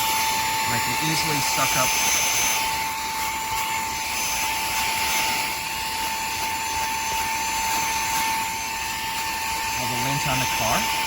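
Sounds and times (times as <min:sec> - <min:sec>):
handheld vacuum cleaner running: 0:00.0 - 0:11.0.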